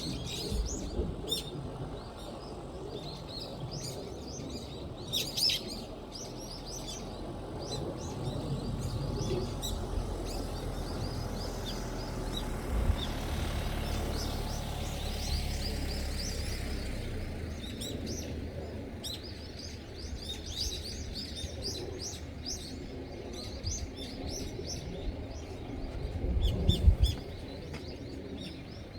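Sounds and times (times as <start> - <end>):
low background rumble: 0.0 - 28.9
small birds chirping: 0.0 - 28.9.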